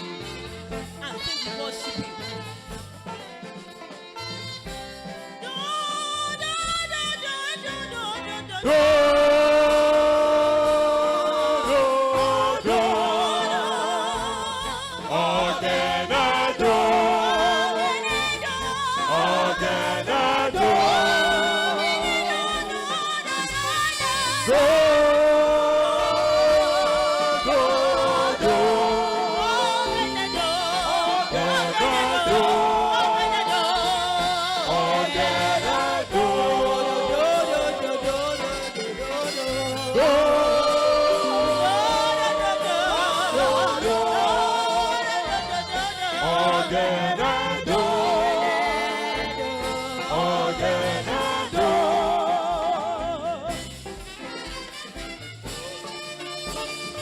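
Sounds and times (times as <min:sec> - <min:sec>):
gospel singing with accompaniment: 0:00.0 - 0:57.0.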